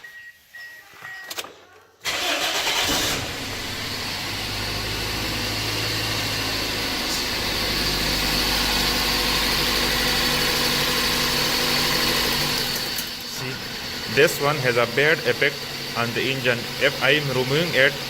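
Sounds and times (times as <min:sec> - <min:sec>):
car engine idling rough: 0:02.8 - 0:18.0.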